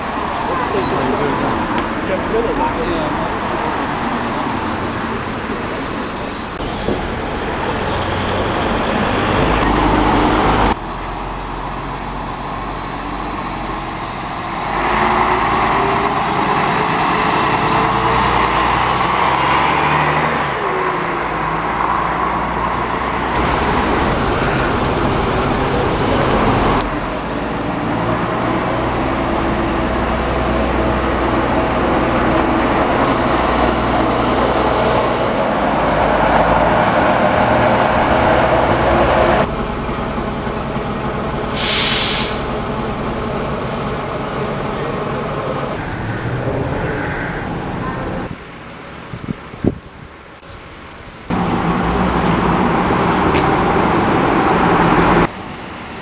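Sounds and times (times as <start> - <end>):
bus diesel engine running: 0.0 - 56.0
road traffic: 0.0 - 56.0.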